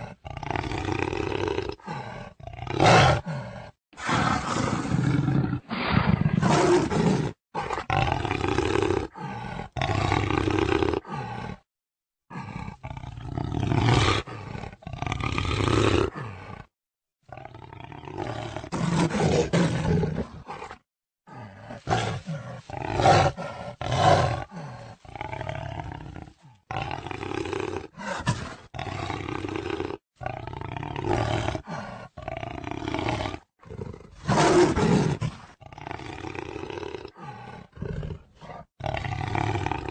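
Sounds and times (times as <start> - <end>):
jaguar roaring and growling: 0.0 - 11.7, 12.3 - 16.7, 17.3 - 39.9.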